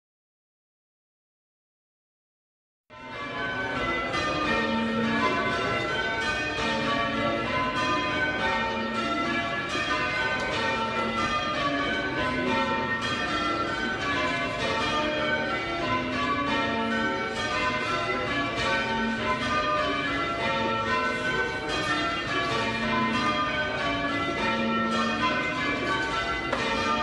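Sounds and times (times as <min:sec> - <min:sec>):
church bells change ringing: 0:02.9 - 0:27.0.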